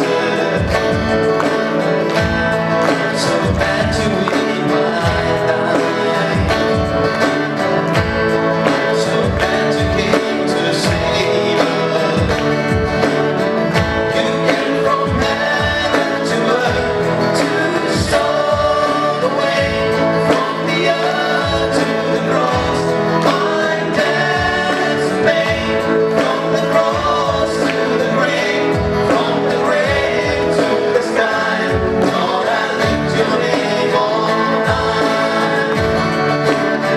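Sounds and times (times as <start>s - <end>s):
gospel song with keyboard and beat: 0.0s - 36.9s.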